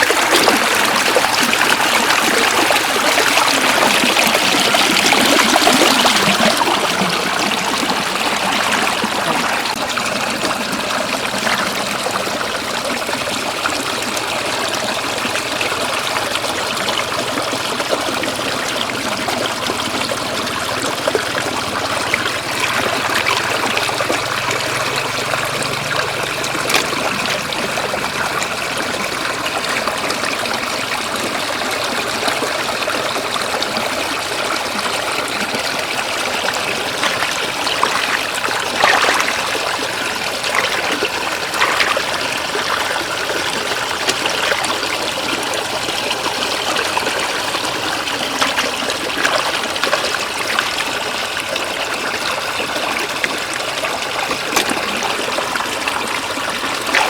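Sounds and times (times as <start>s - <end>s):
floodwater rushing and trickling: 0.0s - 57.0s.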